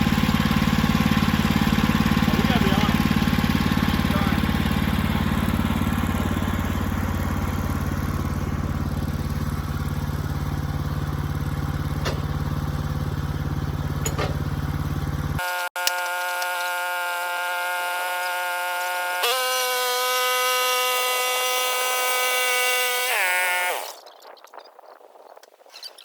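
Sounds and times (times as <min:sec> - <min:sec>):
engine idling: 0:00.0 - 0:21.6.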